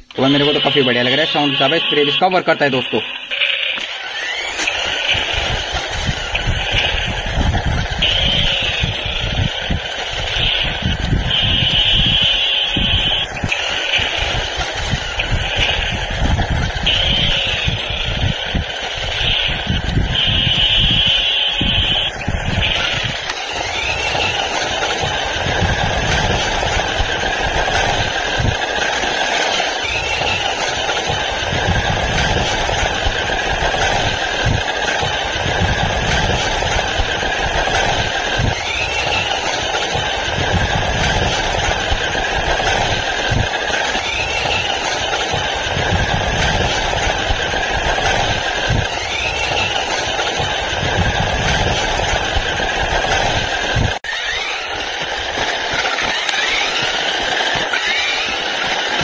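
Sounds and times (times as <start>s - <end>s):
toy electric motor and gears whirring: 0.0s - 59.0s.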